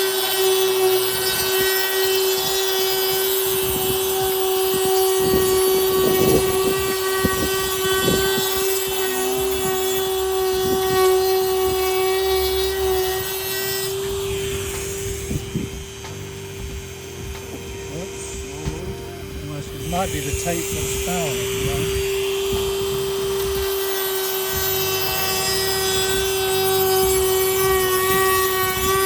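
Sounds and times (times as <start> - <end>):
power tool high-pitched whine: 0.0 - 29.0.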